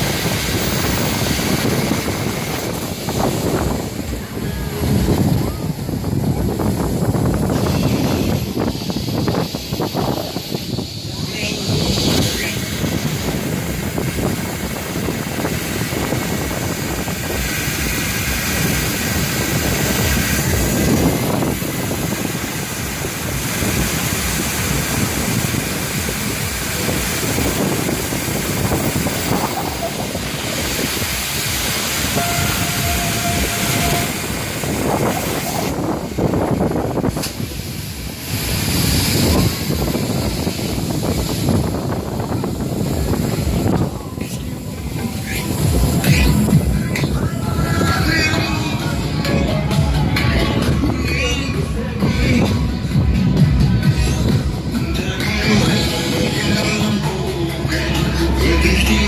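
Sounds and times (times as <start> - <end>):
wind buffeting microphone: 0.0 - 54.8
carousel ride running noise: 0.0 - 59.0.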